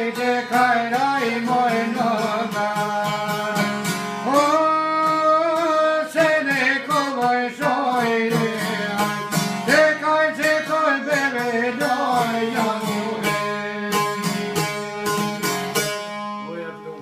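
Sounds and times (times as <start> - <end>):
man singing folk song: 0.0 - 16.0
strummed lute: 0.0 - 17.0.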